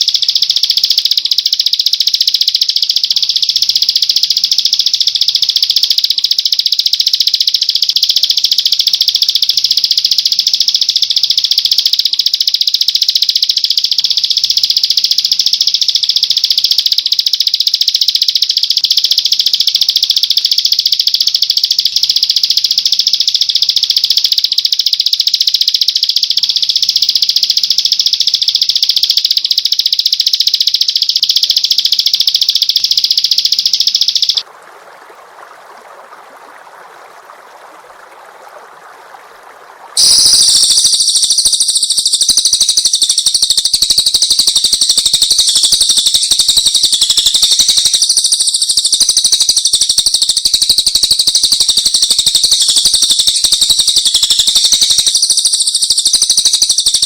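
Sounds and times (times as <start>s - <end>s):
bird buzzing trill: 0.0s - 34.4s, 40.0s - 57.0s.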